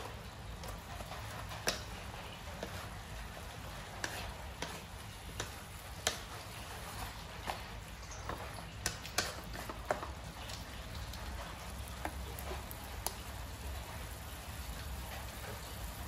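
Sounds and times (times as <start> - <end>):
spatula tapping a pan: 0.0 - 13.3
food sizzling in a pan: 0.0 - 16.0.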